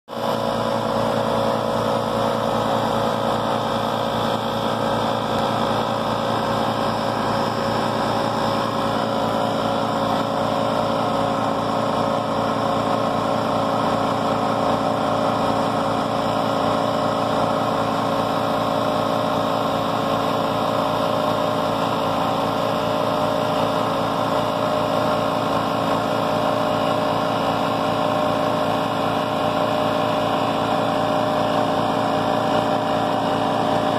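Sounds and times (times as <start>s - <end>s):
generator engine running: 0.1s - 33.9s.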